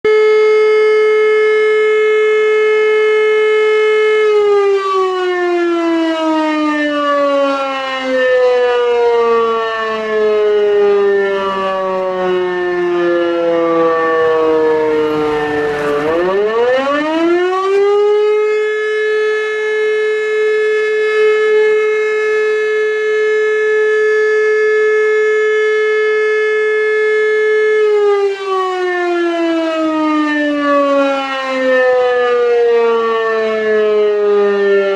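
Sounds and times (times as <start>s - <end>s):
motor-driven siren wailing: 0.1s - 34.9s.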